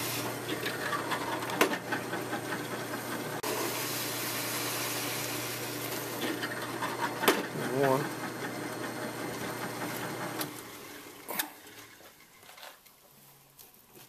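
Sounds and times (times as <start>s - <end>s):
drill press motor running: 0.0s - 12.3s.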